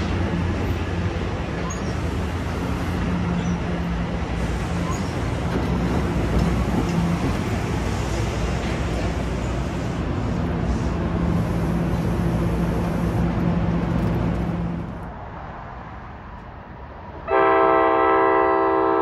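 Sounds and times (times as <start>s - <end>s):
train wheels running past: 0.0s - 16.5s.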